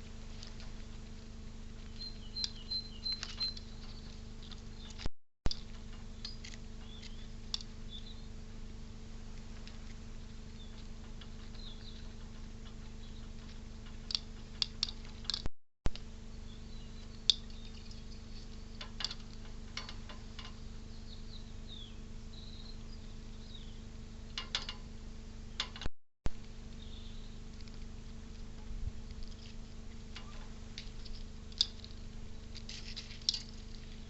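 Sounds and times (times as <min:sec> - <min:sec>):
small birds chirping: 0:00.0 - 0:15.5, 0:16.2 - 0:24.0, 0:26.7 - 0:34.0
electrical hum: 0:00.0 - 0:34.0.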